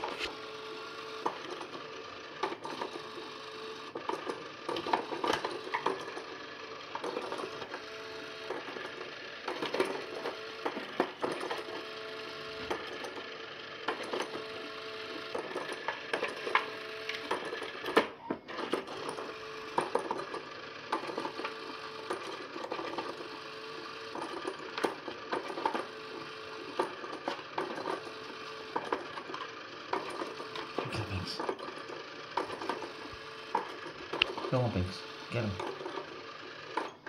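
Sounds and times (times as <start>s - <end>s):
toy motor humming: 0.0s - 37.0s.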